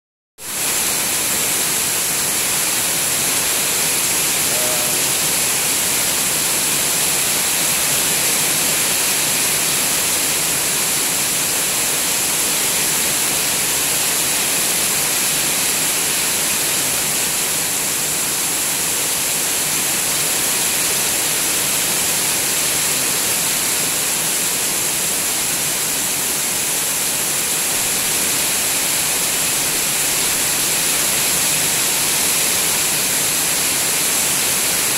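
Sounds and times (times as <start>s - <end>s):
heavy rain on trees and water: 0.4s - 34.9s
runoff pouring off a roof: 0.4s - 34.9s.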